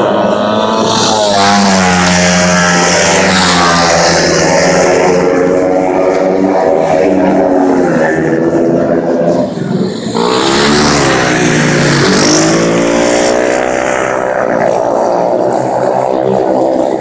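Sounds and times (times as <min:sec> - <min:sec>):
racing motorcycles passing: 0:00.0 - 0:17.0.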